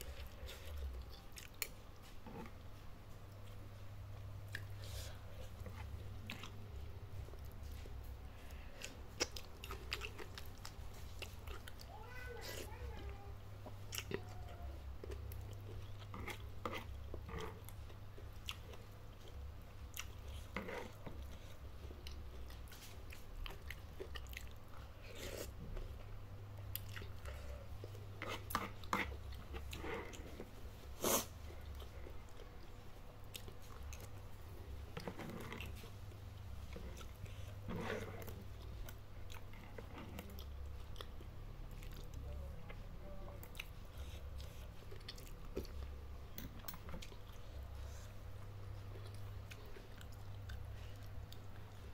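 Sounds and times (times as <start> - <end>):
steady low hum: 0.0 - 51.9
chewing and biting food: 5.4 - 11.9, 14.9 - 42.8, 43.4 - 51.9.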